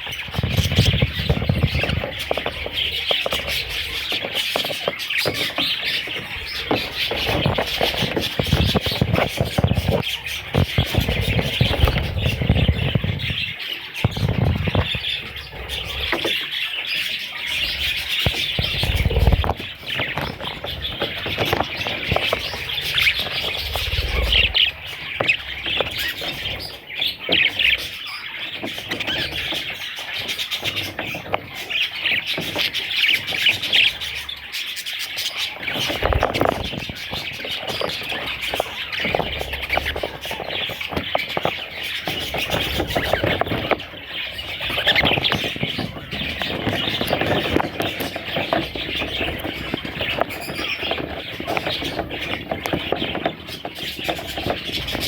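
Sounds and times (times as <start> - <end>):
budgie chicks chirping: 0.0 - 55.0.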